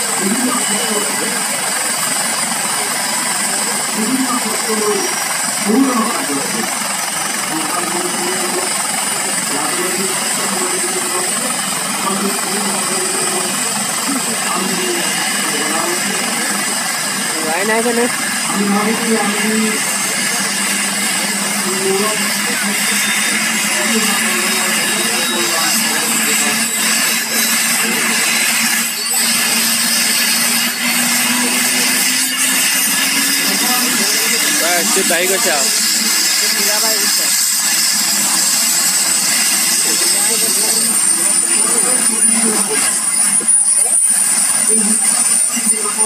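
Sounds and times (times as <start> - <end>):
helicopter turbine engines whining: 0.0 - 46.0.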